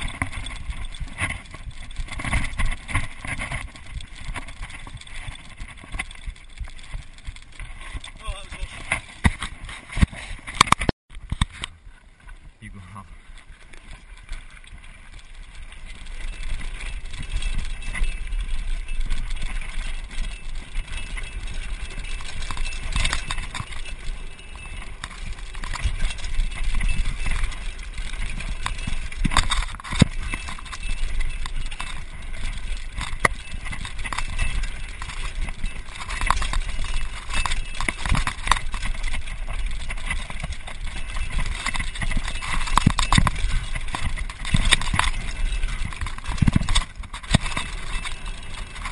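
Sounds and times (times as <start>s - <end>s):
tyres crunching over stones: 0.0s - 11.6s, 12.2s - 48.9s
bike rattling and knocking: 0.0s - 48.9s.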